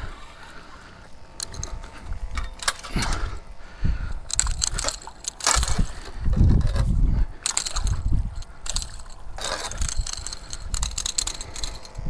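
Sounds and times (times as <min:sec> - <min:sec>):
wind rumble on microphone: 0:01.1 - 0:12.0
landing net clicking and scraping: 0:01.3 - 0:03.4, 0:04.1 - 0:12.0.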